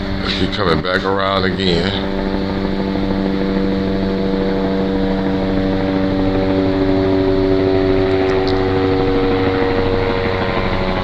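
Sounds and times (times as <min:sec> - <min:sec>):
helicopter rotor and engine drone: 0:00.0 - 0:11.0.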